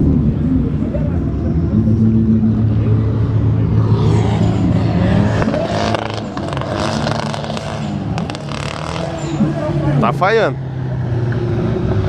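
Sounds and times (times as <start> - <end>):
car engine drone: 0.0 - 12.0
engine revving: 0.0 - 12.0.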